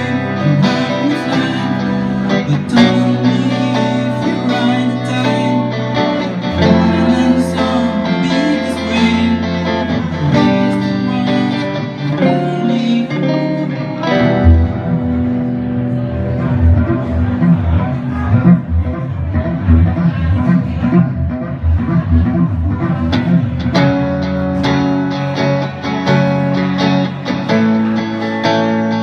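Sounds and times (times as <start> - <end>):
guitar music: 0.0 - 29.0.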